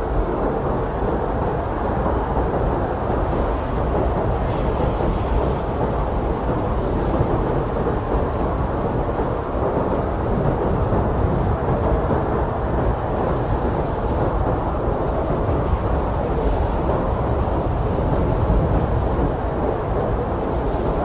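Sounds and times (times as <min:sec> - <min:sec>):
strong blizzard wind: 0:00.0 - 0:21.0.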